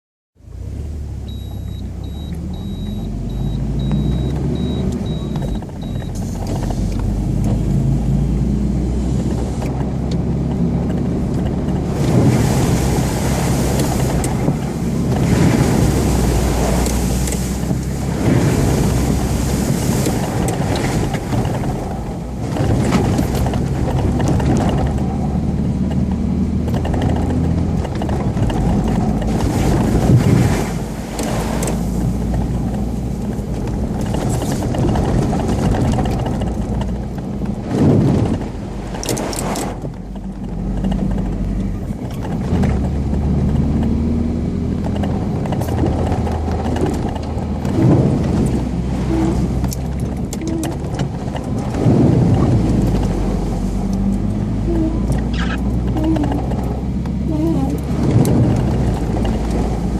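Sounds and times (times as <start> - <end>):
road and wind noise: 0.4 - 59.9
suv engine driving off-road: 0.4 - 59.9
vehicle bumps: 9.2 - 59.9.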